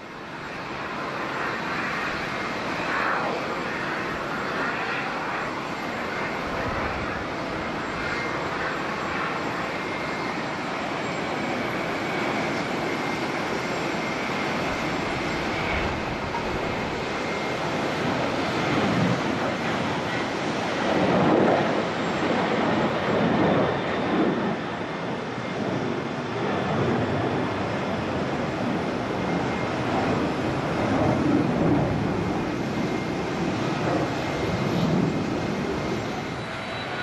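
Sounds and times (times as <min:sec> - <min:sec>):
jet engines at takeoff power: 0:00.0 - 0:37.0.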